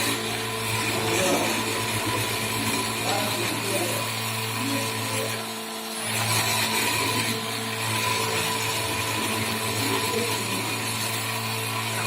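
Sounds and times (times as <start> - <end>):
machine spindle hum and whine: 0.0 - 12.0.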